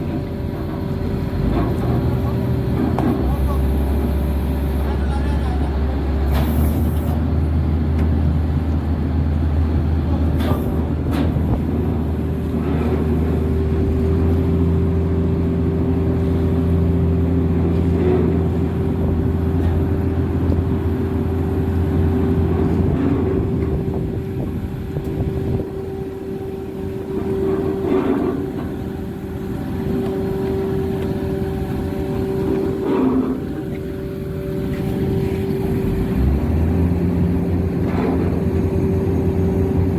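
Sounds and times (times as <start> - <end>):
ship engines humming: 0.0 - 39.9.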